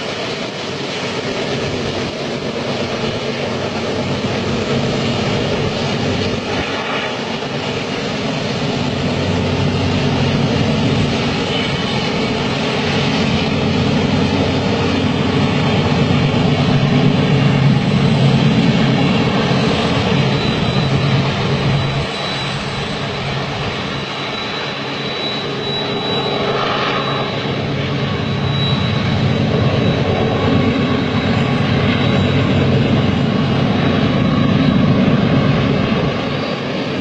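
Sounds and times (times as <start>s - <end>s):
diesel locomotive drone: 0.0s - 37.0s
train rushing noise: 0.0s - 37.0s.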